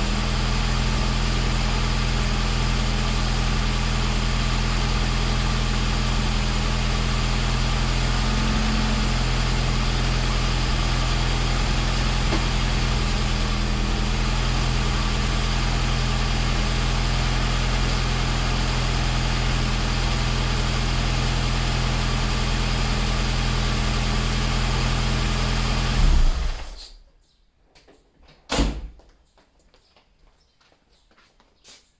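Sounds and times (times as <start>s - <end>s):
car engine idling: 0.0s - 26.8s.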